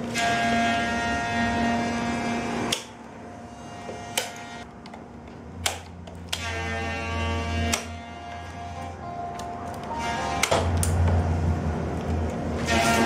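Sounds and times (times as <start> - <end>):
steady humming background: 0.0 - 13.0.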